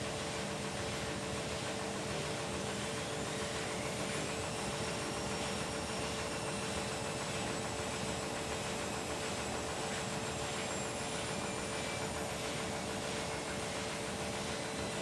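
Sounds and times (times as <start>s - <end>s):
washing machine spin hum: 0.0s - 15.0s.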